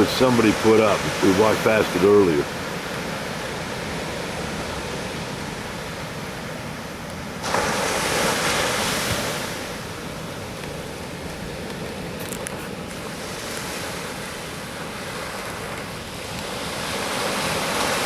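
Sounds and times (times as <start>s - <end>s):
waves rushing: 0.0s - 18.0s.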